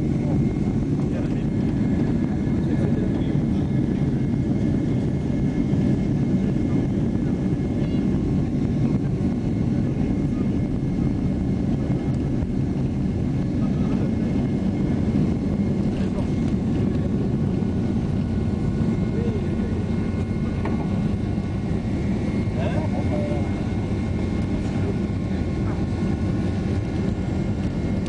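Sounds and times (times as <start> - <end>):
jet engines low rumble: 0.0 - 28.0.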